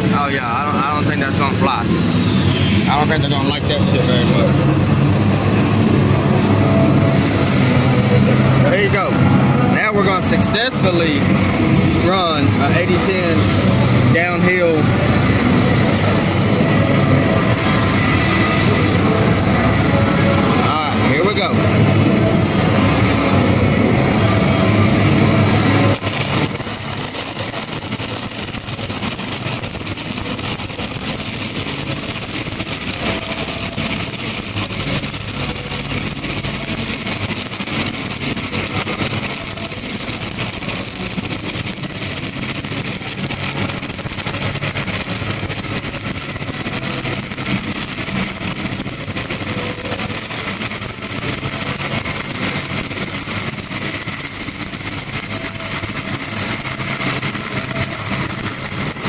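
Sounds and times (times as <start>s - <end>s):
welding arc crackling hiss: 0.0s - 59.0s.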